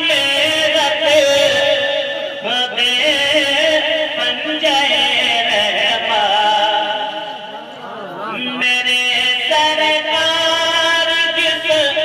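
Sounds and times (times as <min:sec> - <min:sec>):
man singing over loudspeakers: 0:00.0 - 0:12.0.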